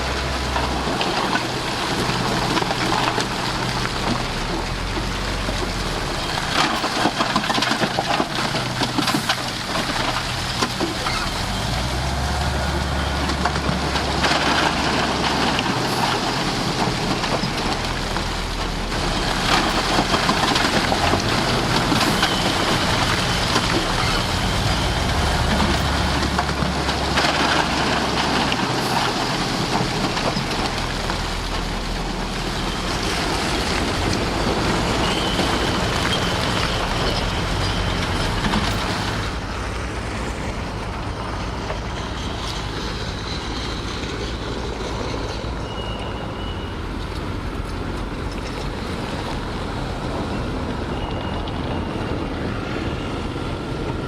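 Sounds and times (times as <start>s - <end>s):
soil and rock scraping: 0.0s - 53.0s
diesel earth-moving machine running: 0.0s - 54.0s.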